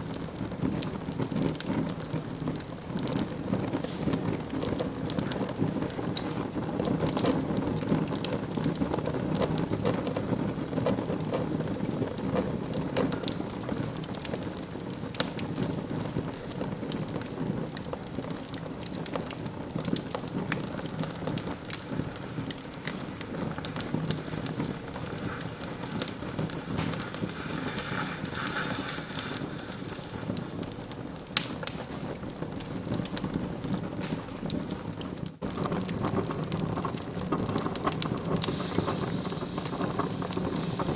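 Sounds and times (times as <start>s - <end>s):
low rush of flame: 0.0s - 40.9s
wood fire crackling and popping: 0.0s - 40.9s.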